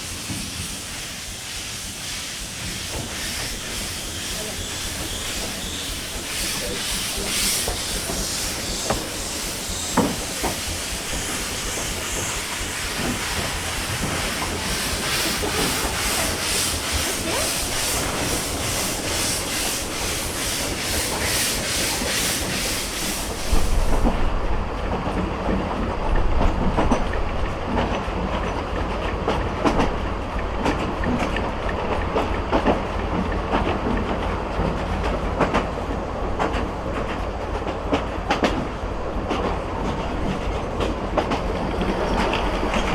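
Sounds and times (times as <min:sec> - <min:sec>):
steam hiss: 0:00.0 - 0:24.6, 0:29.5 - 0:42.9
steam locomotive chuffing: 0:00.0 - 0:42.9.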